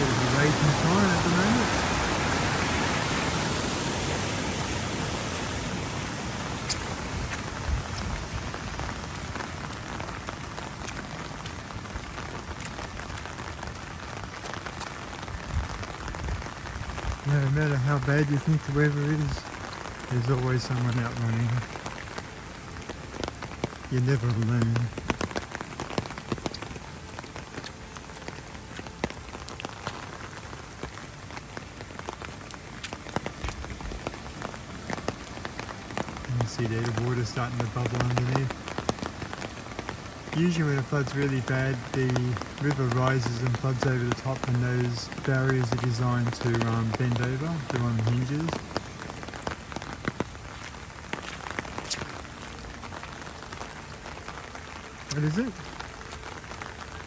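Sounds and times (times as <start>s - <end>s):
rain falling: 0.0s - 57.0s
rush of water: 0.0s - 57.0s.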